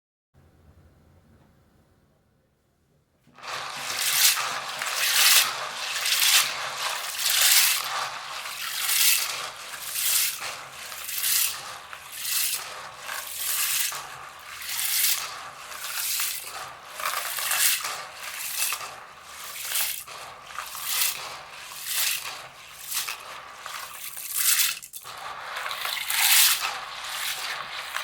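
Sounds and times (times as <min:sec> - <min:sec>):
beans swished in water: 0:03.4 - 0:28.0.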